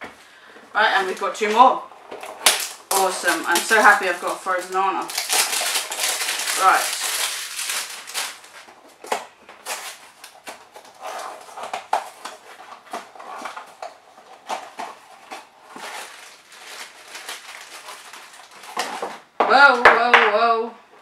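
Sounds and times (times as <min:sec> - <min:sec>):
foil bag crinkling: 0:00.3 - 0:19.3.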